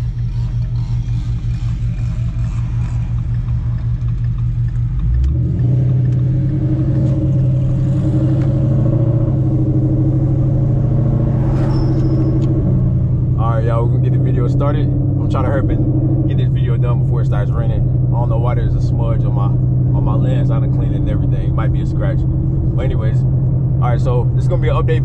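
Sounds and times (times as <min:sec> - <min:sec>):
car exhaust rumble: 0:00.0 - 0:25.0.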